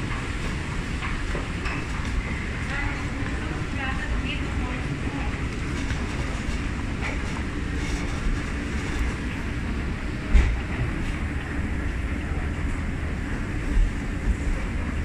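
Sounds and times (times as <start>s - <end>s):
escalator rumbling: 0.0s - 15.0s.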